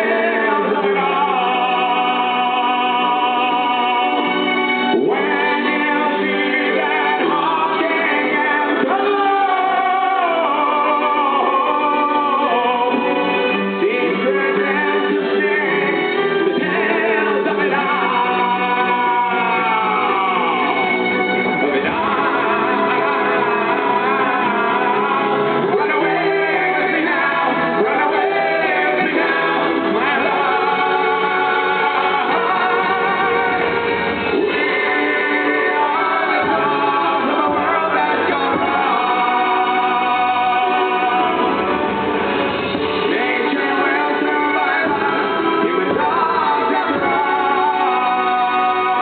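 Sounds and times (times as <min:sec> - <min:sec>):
male singer holding long notes: 0:00.0 - 0:33.6, 0:43.1 - 0:49.0
rock band with keyboard: 0:03.7 - 0:49.0.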